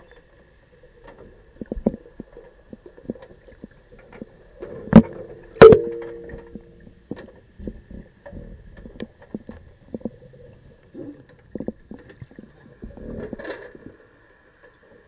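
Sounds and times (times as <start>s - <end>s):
low underwater rumble: 0.5s - 15.0s
muffled underwater knocks and clicks: 1.0s - 14.0s.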